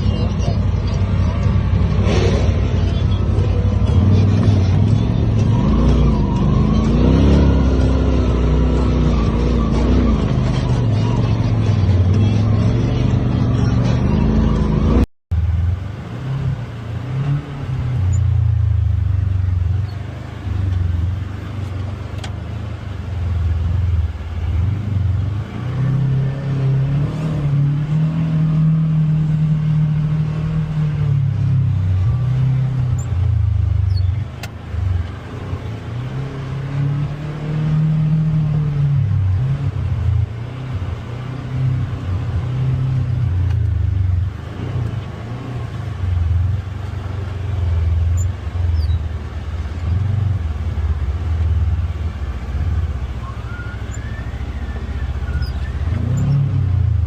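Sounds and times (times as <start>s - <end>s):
utility vehicle engine running: 0.0s - 57.0s.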